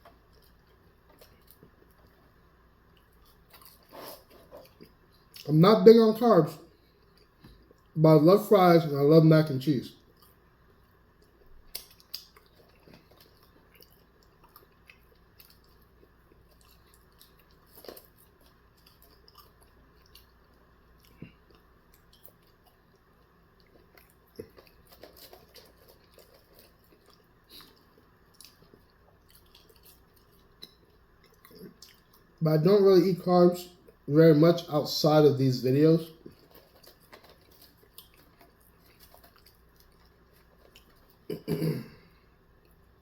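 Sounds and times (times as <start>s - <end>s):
person chewing food: 0.0s - 5.5s, 6.7s - 8.0s, 10.0s - 32.4s, 36.2s - 43.0s.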